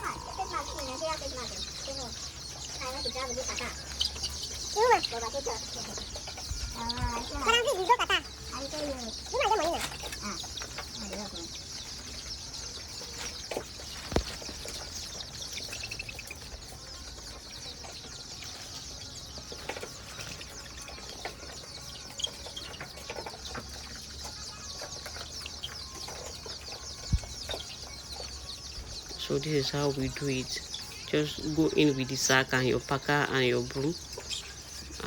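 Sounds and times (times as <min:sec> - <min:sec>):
hens chirping and clucking: 0:00.0 - 0:35.0
scratching: 0:00.0 - 0:35.0.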